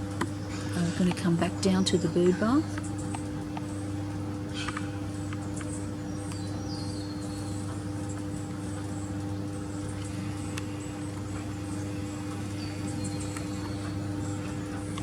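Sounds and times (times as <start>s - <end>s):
low electrical hum: 0.0s - 15.0s
faint bird chirps and twittering: 0.3s - 15.0s.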